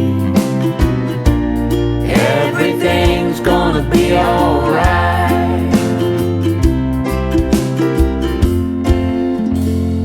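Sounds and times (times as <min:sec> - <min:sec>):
song with bass and beat: 0:00.0 - 0:09.8.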